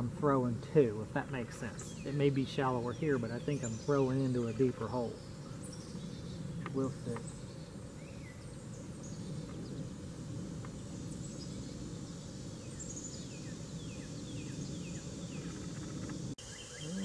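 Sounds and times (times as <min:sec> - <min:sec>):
low background rush: 0:00.0 - 0:16.8
birds chirping: 0:00.0 - 0:17.0.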